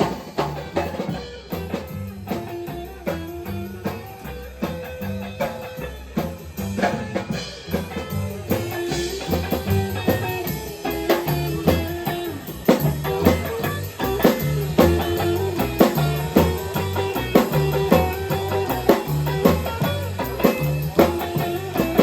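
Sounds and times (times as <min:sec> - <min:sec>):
drum kit beat: 0:00.0 - 0:22.0
electric guitar: 0:00.0 - 0:22.0
walking bass: 0:00.0 - 0:22.0.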